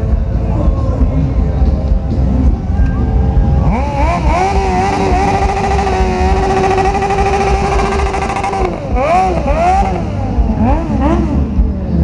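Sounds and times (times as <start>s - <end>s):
idling engines rumble: 0.0s - 12.0s
motorcycle engine revving: 1.7s - 12.0s.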